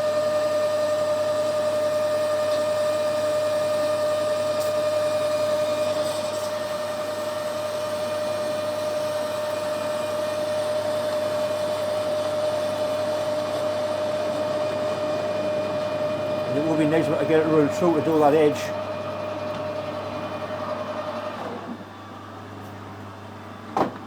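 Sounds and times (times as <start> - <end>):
metal lathe whining: 0.2 - 21.8.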